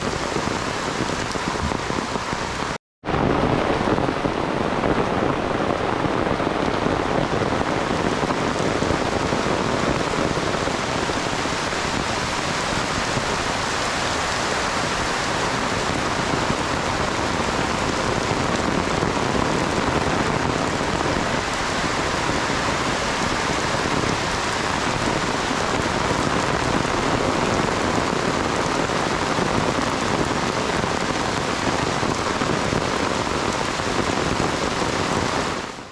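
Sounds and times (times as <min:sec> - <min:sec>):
heavy rain: 0:00.0 - 0:35.9.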